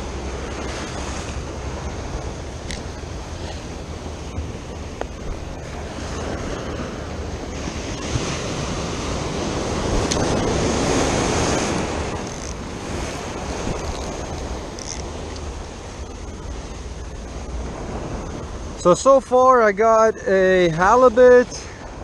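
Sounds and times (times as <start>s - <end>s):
wind buffeting microphone: 0.0s - 18.9s
ocean surf breaking: 0.0s - 22.0s.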